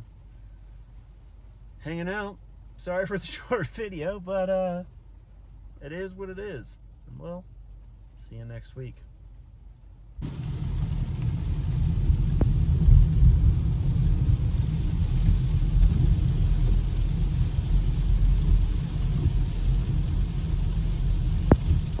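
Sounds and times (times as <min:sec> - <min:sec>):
rain and tyre spray hiss: 0:00.0 - 0:22.0
road rumble inside car: 0:00.0 - 0:22.0.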